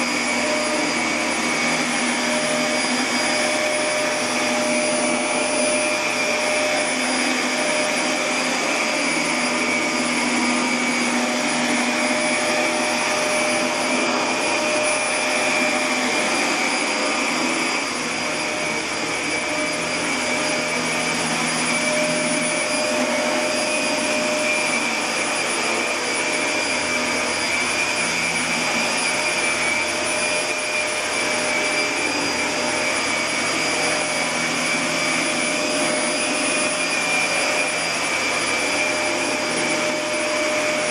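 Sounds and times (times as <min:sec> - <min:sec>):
machine whirring with high whine: 0:00.0 - 0:40.9.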